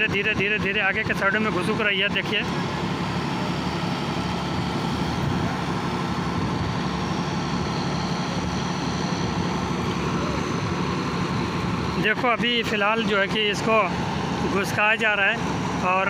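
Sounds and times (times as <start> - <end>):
machine engine droning: 0.0 - 16.0.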